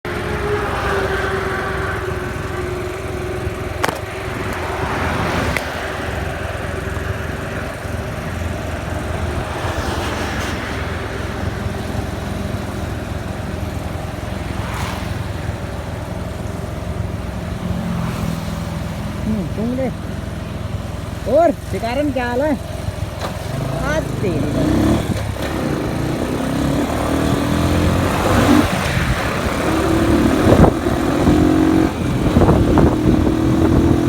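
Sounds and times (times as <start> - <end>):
motorcycle engine running: 0.0 - 34.0
road noise: 0.0 - 34.0.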